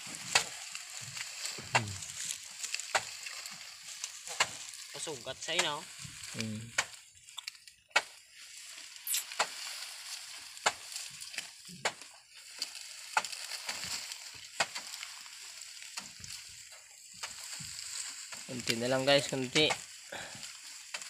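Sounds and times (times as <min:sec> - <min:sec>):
sugarcane rustling and crackling: 0:00.0 - 0:21.0.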